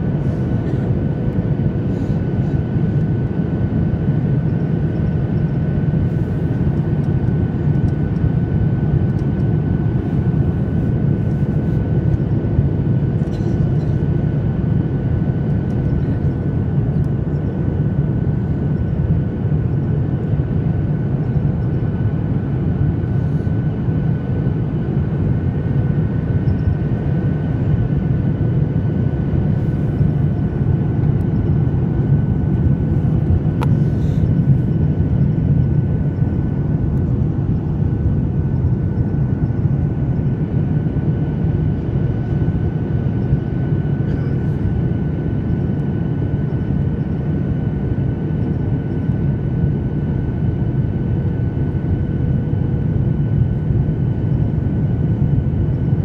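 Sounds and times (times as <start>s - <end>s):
airliner cabin engine rumble: 0.0s - 56.0s
faint steady whine: 0.0s - 56.0s.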